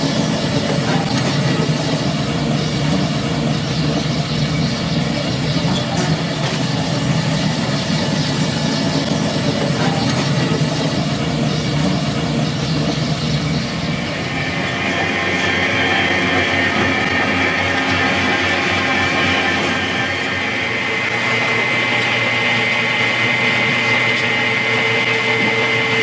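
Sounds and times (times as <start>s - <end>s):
feeding machinery drone: 0.0s - 26.0s.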